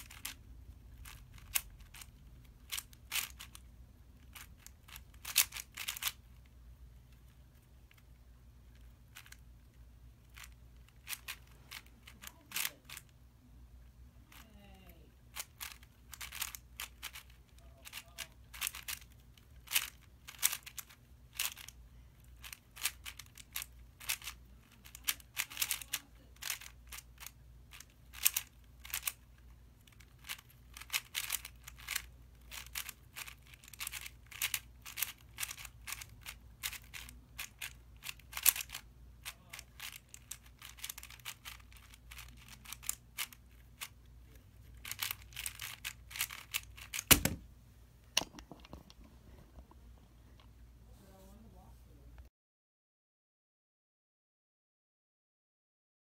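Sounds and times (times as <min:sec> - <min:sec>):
puzzle cube plastic clicks: 0:00.0 - 0:13.1, 0:15.2 - 0:47.4.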